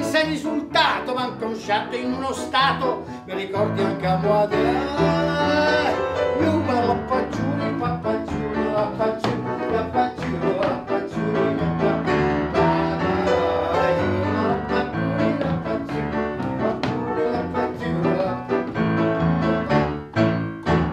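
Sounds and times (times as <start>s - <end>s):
upright piano tune: 0.0s - 20.9s.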